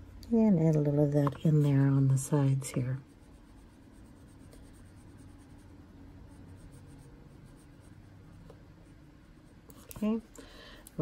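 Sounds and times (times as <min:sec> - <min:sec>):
pencil scratching on paper: 0:00.7 - 0:10.2.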